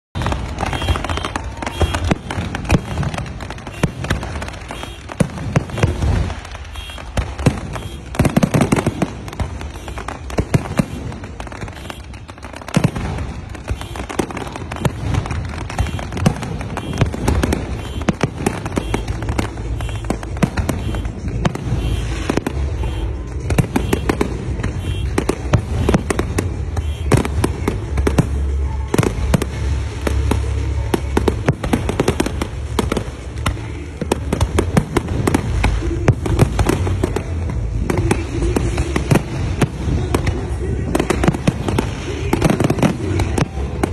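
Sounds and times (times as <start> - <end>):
fireworks bursting and crackling: 0.1 - 43.9.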